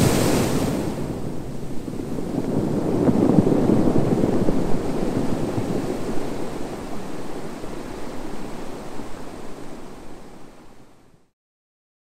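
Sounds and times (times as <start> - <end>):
small waves breaking on sand: 0.0 - 11.0.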